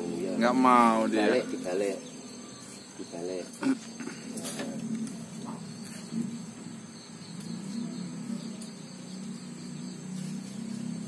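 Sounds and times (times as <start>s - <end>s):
high insect trill: 0.0s - 11.0s.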